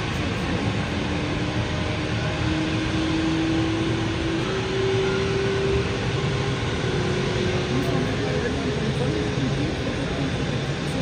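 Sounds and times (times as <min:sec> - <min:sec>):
airport noise drone: 0:00.0 - 0:11.0.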